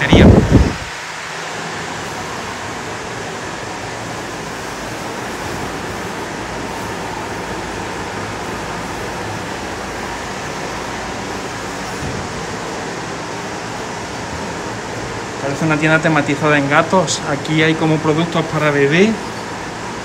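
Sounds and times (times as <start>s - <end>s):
rushing air: 0.0s - 20.0s.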